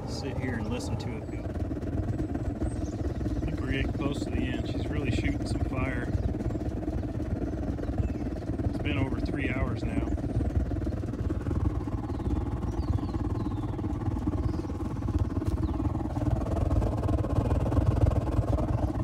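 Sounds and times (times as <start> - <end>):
heater burner fluttering rumble: 0.0 - 19.0.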